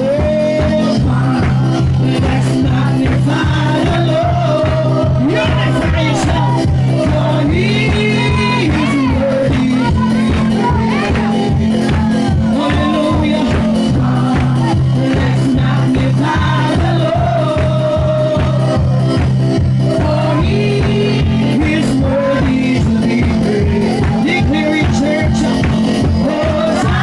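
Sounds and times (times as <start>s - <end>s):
live worship music with singing: 0.0s - 27.0s.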